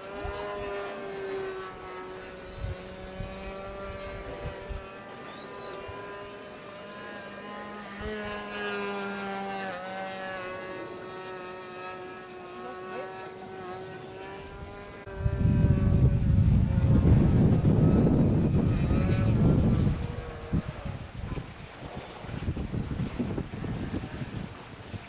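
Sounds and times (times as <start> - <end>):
wind buffeting microphone: 0.0 - 12.2, 12.8 - 25.0
model airplane motor whine: 0.0 - 25.0.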